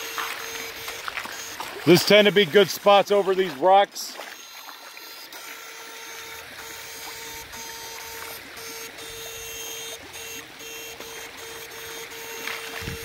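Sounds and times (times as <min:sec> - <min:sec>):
electrical whine: 0:00.0 - 0:13.0.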